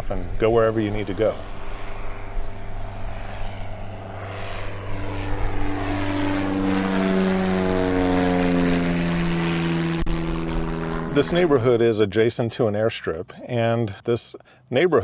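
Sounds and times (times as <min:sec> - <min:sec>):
propeller airplane flying overhead: 0:00.0 - 0:13.3.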